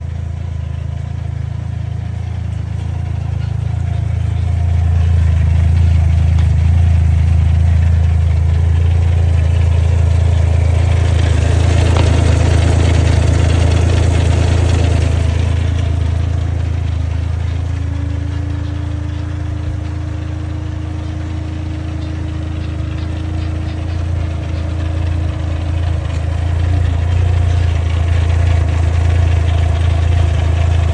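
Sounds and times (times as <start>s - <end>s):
engine idling with clutch noise: 0.0s - 30.9s.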